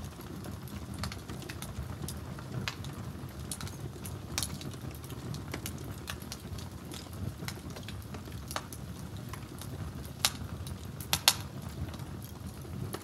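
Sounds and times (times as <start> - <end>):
low rumble of burning logs: 0.0 - 13.0
wood fire popping and snapping: 0.0 - 13.0.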